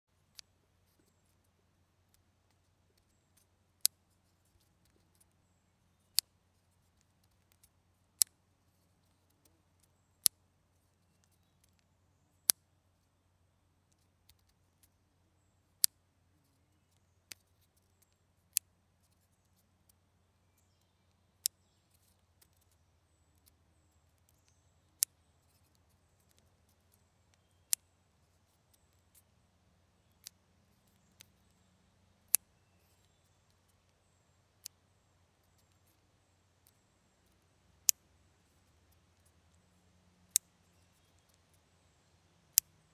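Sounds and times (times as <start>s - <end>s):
faint low hum: 0.1s - 42.9s.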